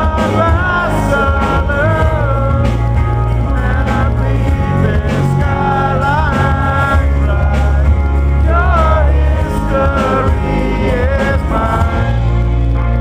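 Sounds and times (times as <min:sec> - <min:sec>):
bending melody line: 0:00.0 - 0:13.0
live rock band playing: 0:00.0 - 0:13.0.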